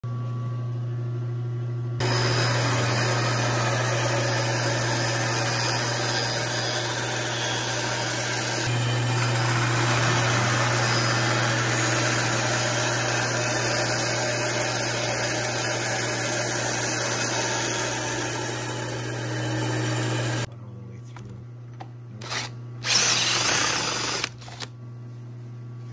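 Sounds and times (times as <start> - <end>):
bandsaw cutting wood: 2.0 - 20.5, 22.2 - 24.7.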